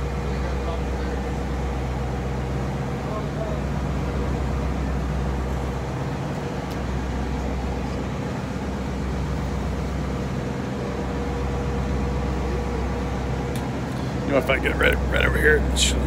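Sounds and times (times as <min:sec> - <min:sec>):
boat engine humming: 0:00.0 - 0:16.0
faint steady whine: 0:00.0 - 0:16.0.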